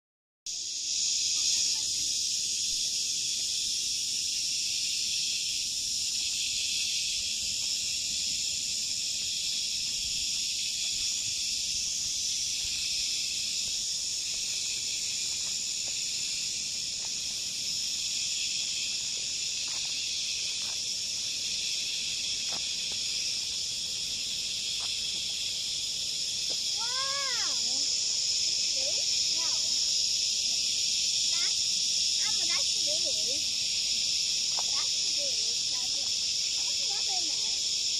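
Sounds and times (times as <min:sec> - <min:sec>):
insect chorus drone: 0:00.5 - 0:37.9.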